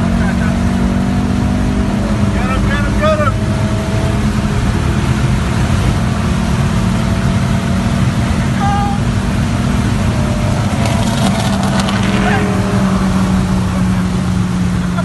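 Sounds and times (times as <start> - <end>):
car engine running steadily: 0.0 - 15.0
road and wind noise: 0.0 - 15.0.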